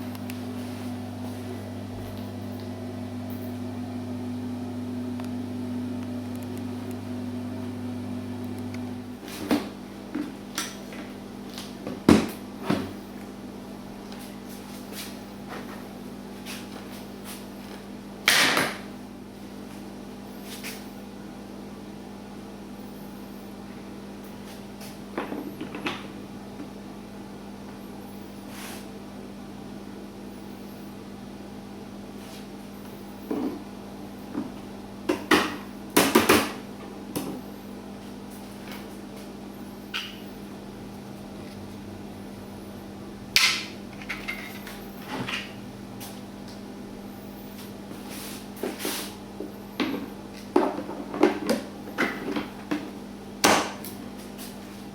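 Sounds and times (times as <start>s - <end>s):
steady low hum: 0.0s - 51.1s.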